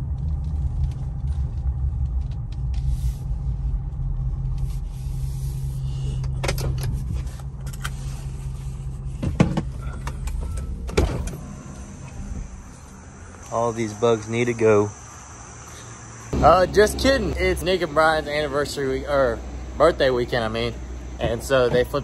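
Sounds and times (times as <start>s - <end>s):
truck engine drone: 0.0s - 22.0s.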